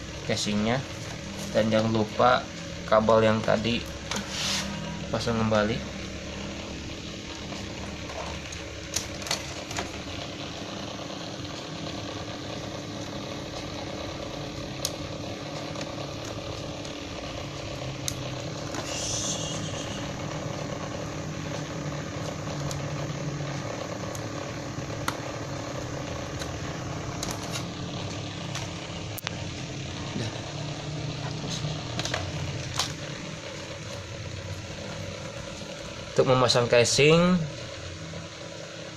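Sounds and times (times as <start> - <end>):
steady engine-like hum: 0.0 - 38.9.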